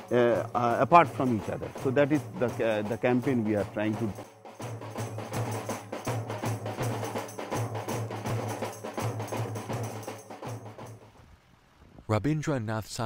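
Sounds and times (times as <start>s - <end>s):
percussion music with deep bass: 0.0s - 11.2s.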